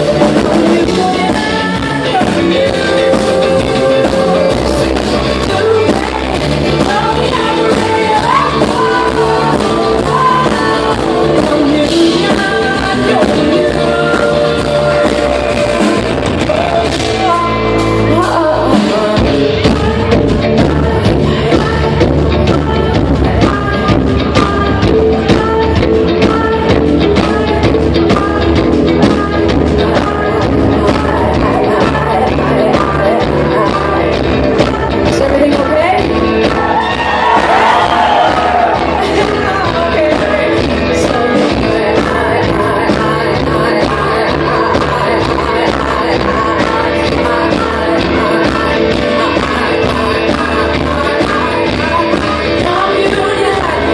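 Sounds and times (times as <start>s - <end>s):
live rock band: 0.0s - 53.9s
woman singing: 0.0s - 53.9s.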